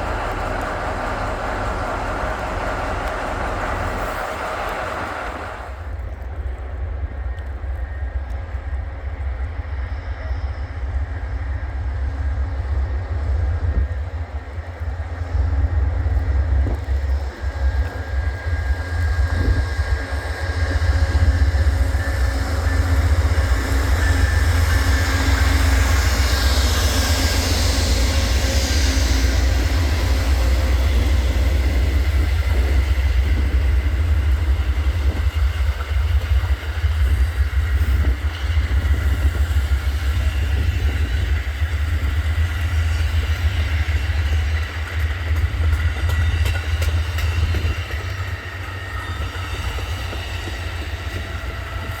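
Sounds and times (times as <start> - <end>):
diesel locomotive rumble: 0.0 - 52.0.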